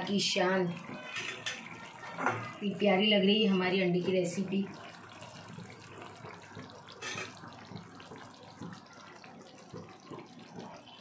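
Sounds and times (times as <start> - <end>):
gravy simmering and bubbling: 0.0 - 11.0.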